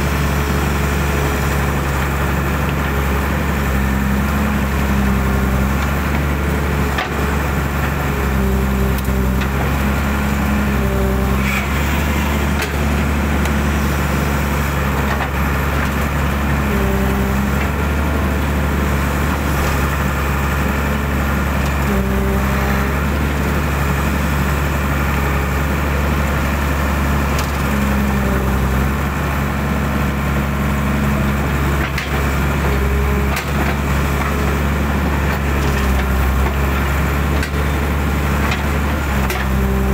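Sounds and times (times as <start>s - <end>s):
excavator diesel engine running: 0.0s - 39.9s
hydraulic whine: 0.0s - 39.9s.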